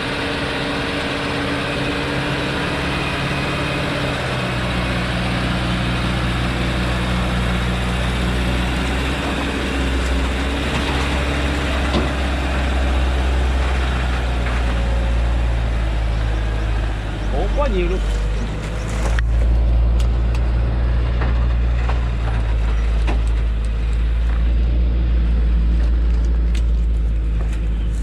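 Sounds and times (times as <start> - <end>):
road and tyre noise: 0.0 - 28.0
truck diesel engine droning: 0.0 - 28.0.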